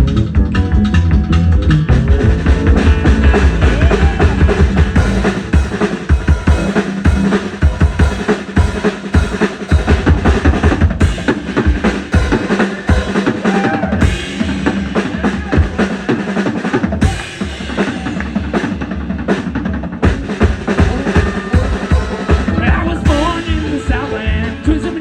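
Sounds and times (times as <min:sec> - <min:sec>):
bass line: 0:00.0 - 0:19.2, 0:20.1 - 0:25.0
drum kit beat: 0:01.9 - 0:25.0.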